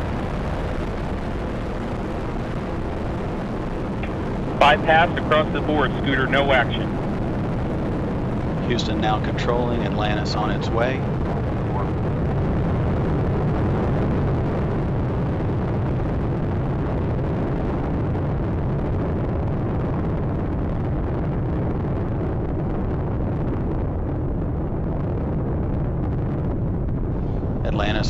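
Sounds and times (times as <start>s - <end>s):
hiss above rumble: 0.0s - 28.0s
rocket engines rumbling: 0.0s - 28.0s.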